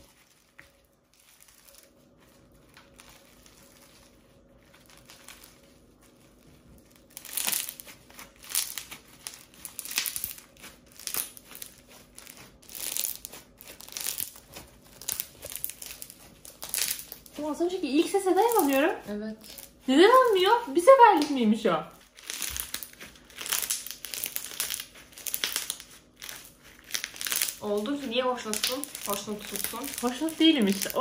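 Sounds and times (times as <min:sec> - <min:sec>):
foam slime crackling: 0:00.0 - 0:31.0.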